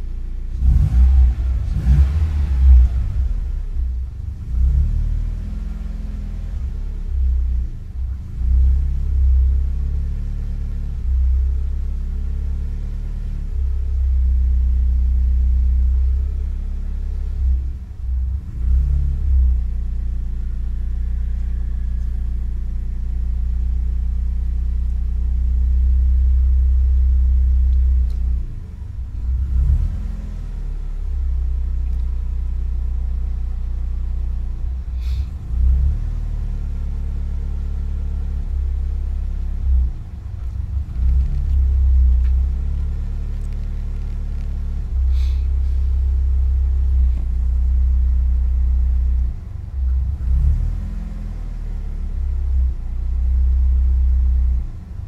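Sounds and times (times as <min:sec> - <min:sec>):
car engine idling unevenly: 0:00.0 - 0:55.0.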